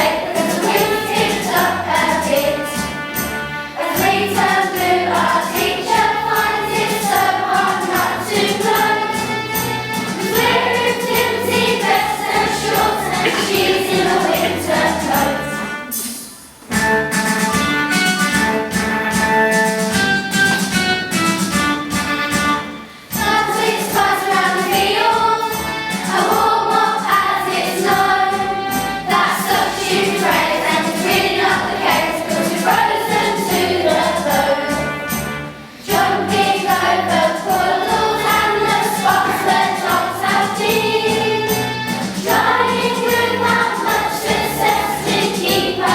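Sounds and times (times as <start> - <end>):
group singing in unison: 0.0 - 16.2, 23.1 - 45.9
instrumental backing: 0.0 - 45.9.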